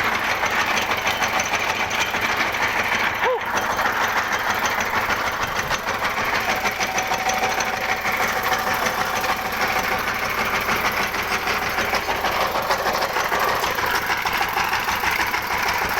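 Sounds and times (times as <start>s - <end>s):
drilling rig engine chugging: 0.0s - 15.9s.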